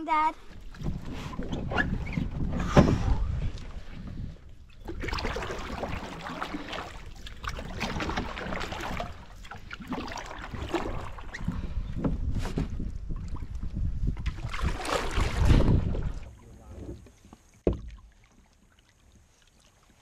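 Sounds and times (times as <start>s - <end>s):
water lapping at canoe hull: 0.1s - 20.0s
paddle splashing water: 0.4s - 20.0s.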